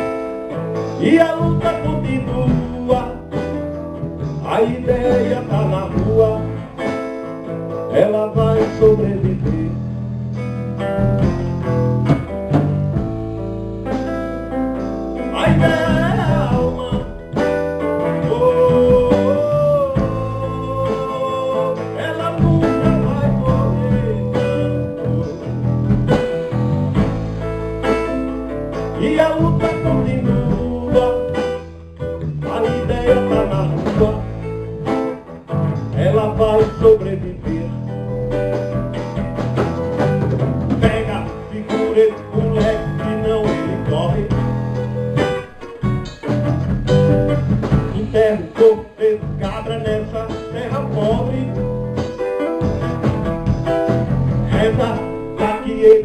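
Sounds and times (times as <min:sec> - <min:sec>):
bass: 0:00.0 - 0:56.0
guitar: 0:00.0 - 0:56.0
live band playing: 0:00.0 - 0:56.0.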